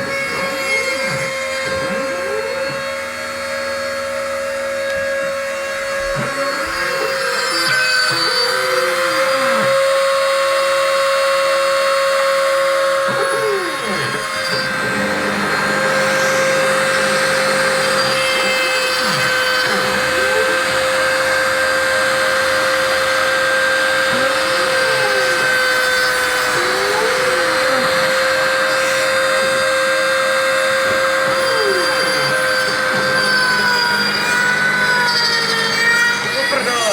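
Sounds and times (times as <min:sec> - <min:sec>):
axis motors sweeping in pitch: 0:00.0 - 0:36.9
milling spindle whine: 0:00.0 - 0:36.9.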